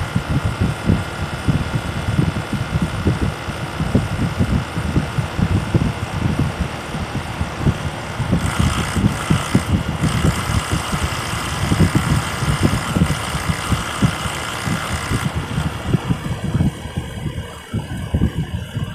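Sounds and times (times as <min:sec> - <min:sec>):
heat pump low pulsing throb: 0:00.0 - 0:18.9
hissing rush: 0:00.0 - 0:18.9.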